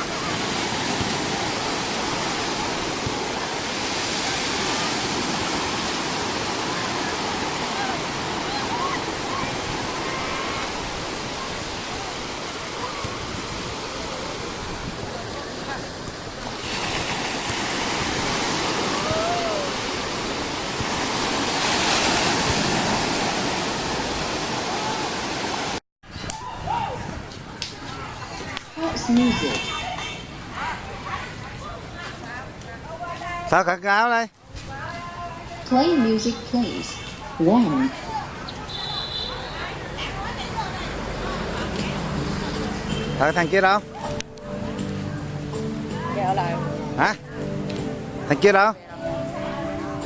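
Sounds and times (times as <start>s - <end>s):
sea surf on beach: 0.0s - 33.7s, 34.4s - 50.0s.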